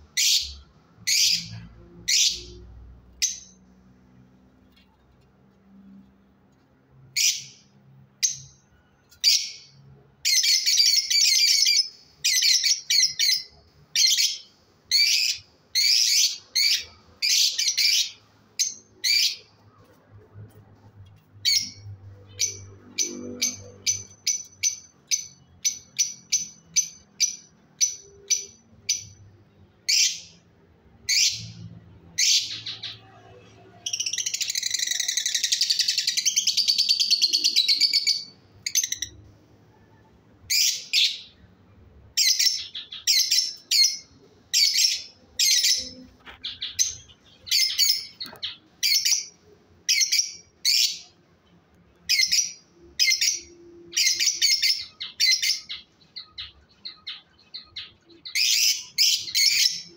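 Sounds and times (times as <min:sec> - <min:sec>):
lovebird chirping: 0:00.1 - 0:03.6, 0:07.1 - 0:19.9, 0:21.4 - 0:41.5, 0:42.1 - 0:51.2, 0:52.0 - 0:59.9.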